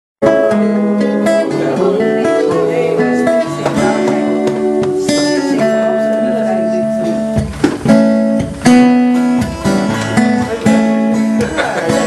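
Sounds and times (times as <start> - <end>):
guitar strummed chords: 0.2 - 12.0.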